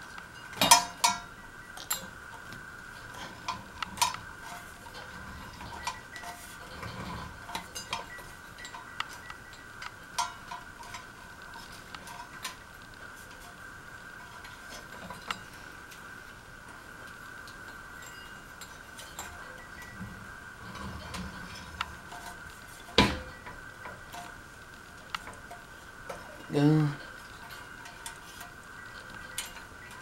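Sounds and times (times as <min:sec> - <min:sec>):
faint high hum: 0:00.0 - 0:30.0
metal parts clicking and clinking: 0:00.2 - 0:02.2, 0:03.0 - 0:13.6, 0:17.4 - 0:24.4, 0:25.0 - 0:30.0.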